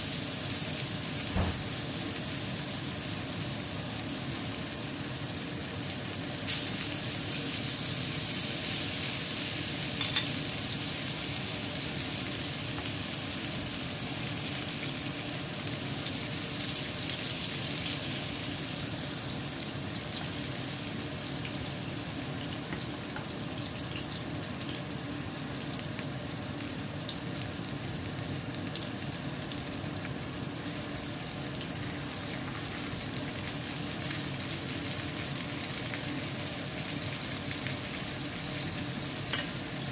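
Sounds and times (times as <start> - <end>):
fish sizzling in a pan: 0.0 - 39.9.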